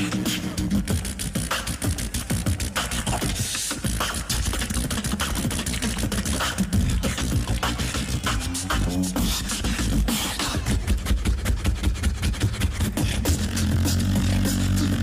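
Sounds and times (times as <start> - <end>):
beatboxing drum beat: 0.0 - 15.0
vocal bass sounds: 0.0 - 15.0.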